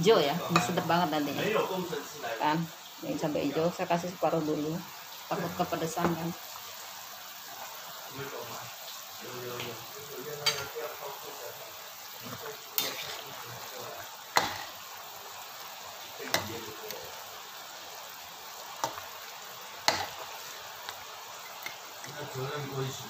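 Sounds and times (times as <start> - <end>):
soup boiling and bubbling: 0.0 - 23.0.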